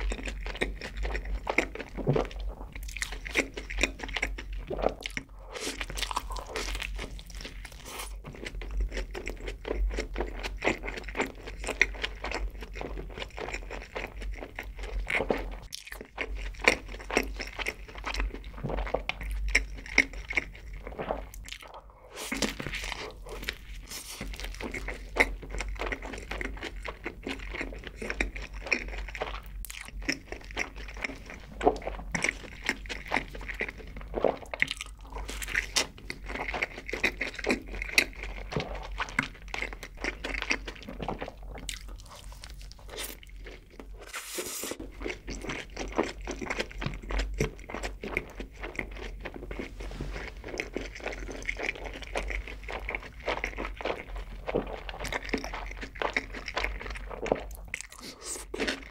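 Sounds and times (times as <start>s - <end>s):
crunchy chewing: 0.0s - 58.9s.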